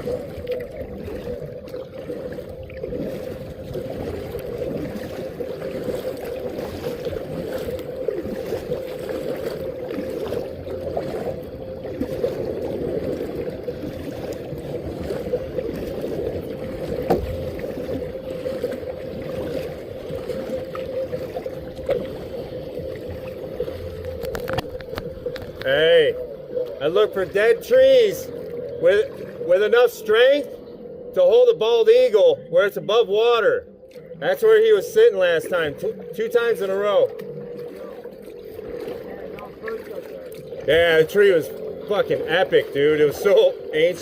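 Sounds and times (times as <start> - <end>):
constant hum: 0.0 - 44.0
water moving against kayak: 0.0 - 44.0.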